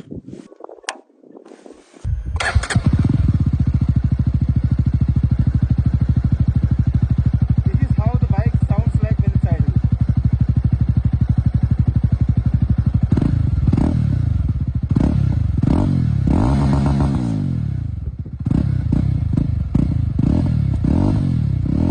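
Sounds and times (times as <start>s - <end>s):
motorcycle engine idling and revving: 2.0s - 21.9s.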